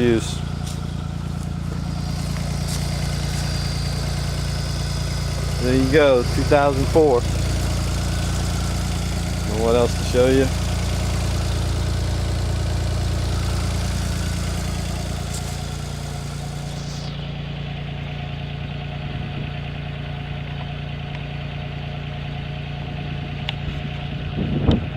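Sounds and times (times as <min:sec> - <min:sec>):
snowmobile engine idling: 0:00.0 - 0:24.9.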